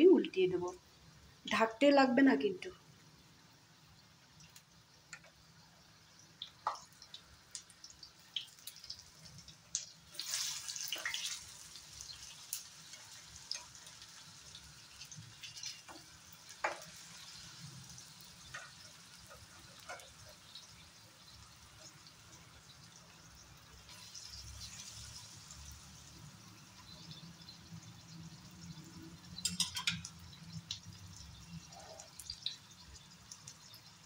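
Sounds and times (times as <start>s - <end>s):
fritters sizzling in oil: 0.0s - 34.0s.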